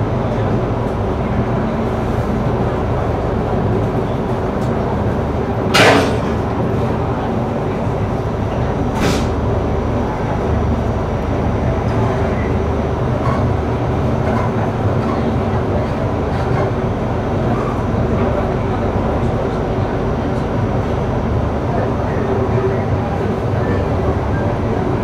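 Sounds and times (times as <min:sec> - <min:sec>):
train rumbling from inside carriage: 0:00.0 - 0:25.0.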